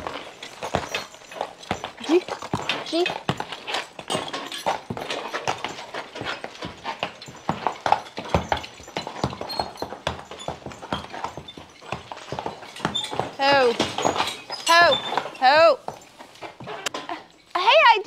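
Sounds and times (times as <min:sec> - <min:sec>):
horse hooves clopping: 0:00.0 - 0:18.0.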